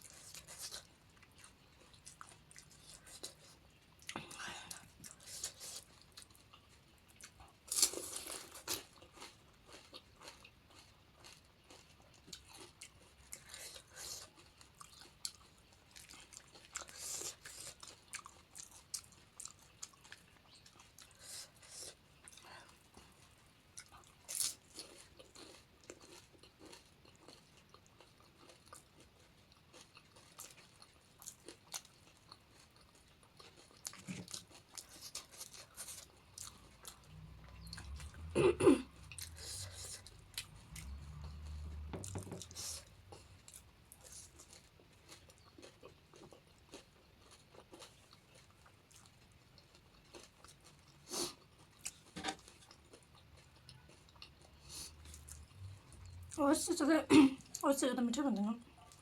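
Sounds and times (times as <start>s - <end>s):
chewing crunchy food: 0.0s - 56.8s.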